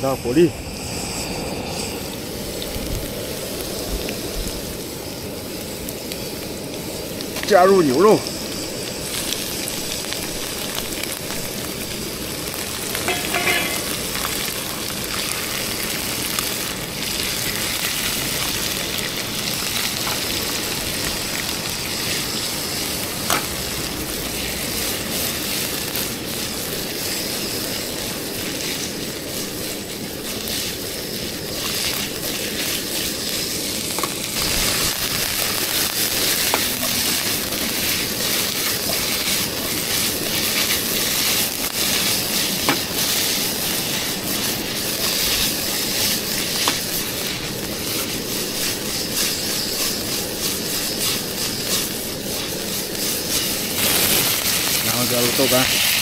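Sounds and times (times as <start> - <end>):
meat sizzling in a wok: 0.0 - 56.0.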